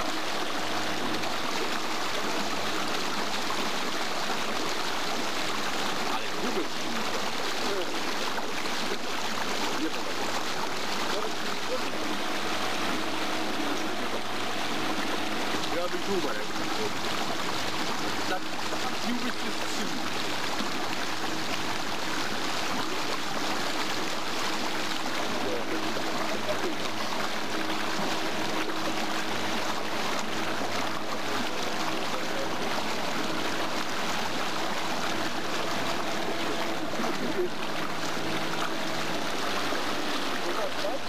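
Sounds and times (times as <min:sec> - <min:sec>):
boat motor running: 0:00.0 - 0:41.0
water rushing past hull: 0:00.0 - 0:41.0.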